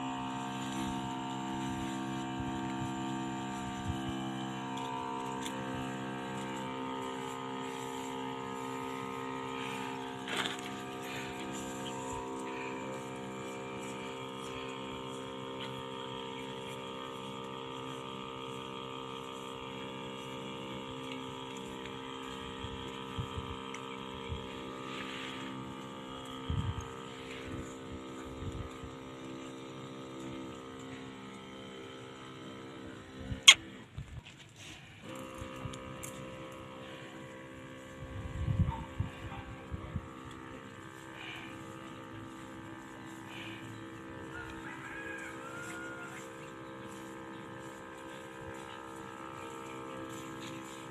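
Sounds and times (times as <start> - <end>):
sprayer pump motor humming: 0.0 - 50.9.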